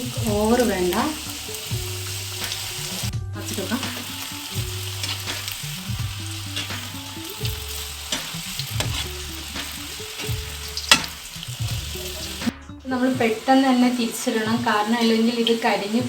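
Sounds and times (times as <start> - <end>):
pastries sizzling in hot oil: 0.0 - 16.0.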